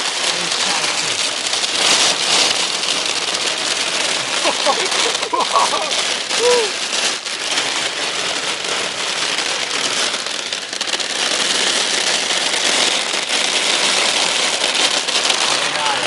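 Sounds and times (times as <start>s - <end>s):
heavy rain pelting a car: 0.0s - 16.0s.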